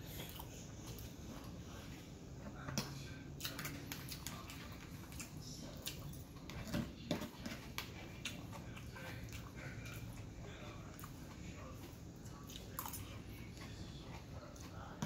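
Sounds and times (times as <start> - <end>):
person chewing: 0.0 - 1.9, 2.8 - 15.0.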